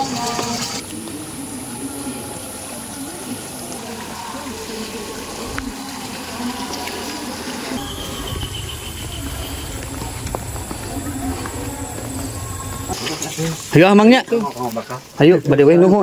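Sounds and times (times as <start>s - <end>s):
water running through channels: 0.0s - 16.0s.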